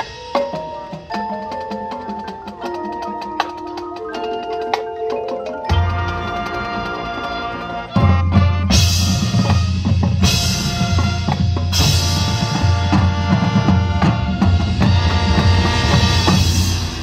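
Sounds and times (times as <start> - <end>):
heavy drums: 0.0 - 17.0
keyboard percussion: 0.0 - 17.0
marching band playing: 0.0 - 17.0.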